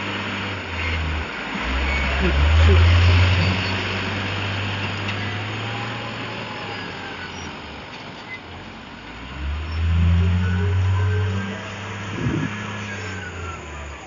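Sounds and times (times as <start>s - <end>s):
diesel truck engine droning: 0.0s - 14.0s.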